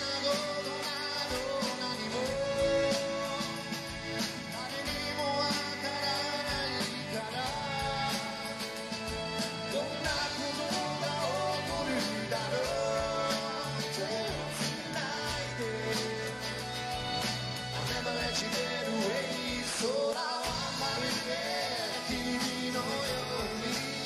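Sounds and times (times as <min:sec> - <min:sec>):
electric bass: 0:00.0 - 0:19.8
acoustic guitars strummed: 0:00.0 - 0:24.0
drum kit steady beat: 0:00.0 - 0:24.0
man singing: 0:00.0 - 0:24.0.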